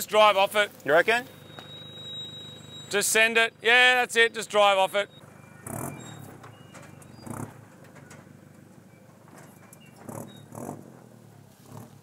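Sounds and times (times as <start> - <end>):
truck engine running low: 0.0 - 12.0
faint birds chirping: 0.3 - 10.6.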